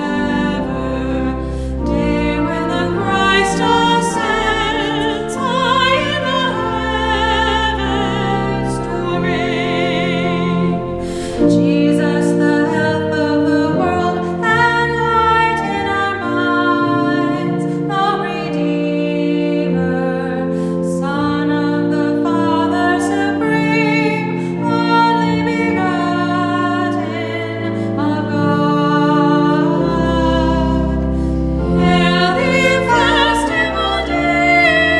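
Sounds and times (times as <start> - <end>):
sustained accompaniment chords: 0.0 - 34.9
women singing a hymn: 0.0 - 34.9.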